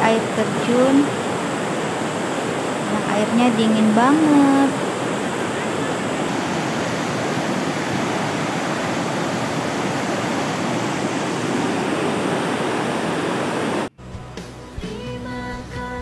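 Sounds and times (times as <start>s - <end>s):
waterfall rushing: 0.0s - 13.9s.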